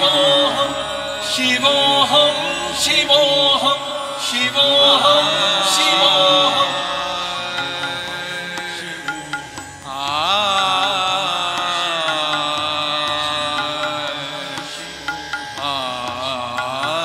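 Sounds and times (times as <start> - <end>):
steady drone: 0.0 - 17.0.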